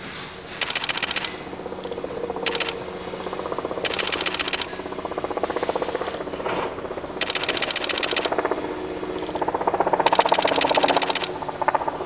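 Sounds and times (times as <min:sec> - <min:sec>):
electric train rattling and humming: 0:00.0 - 0:12.0.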